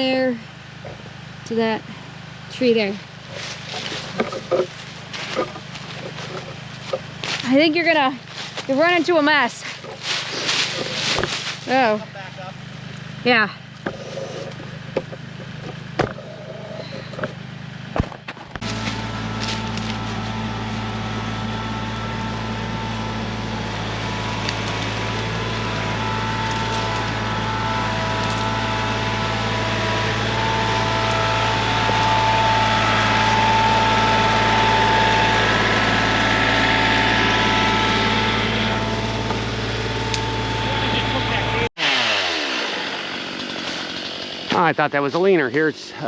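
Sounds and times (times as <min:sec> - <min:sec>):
engine running with whine: 0:00.0 - 0:46.0.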